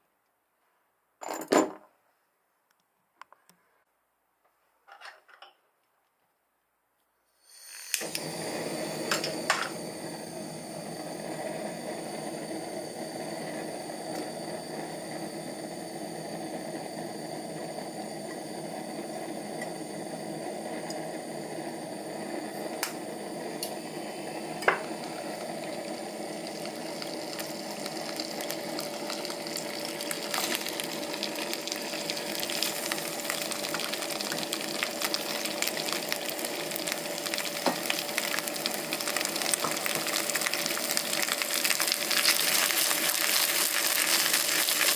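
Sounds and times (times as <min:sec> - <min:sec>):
gas burner hissing: 0:07.4 - 0:44.9
vegetables sizzling in oil: 0:07.4 - 0:44.9.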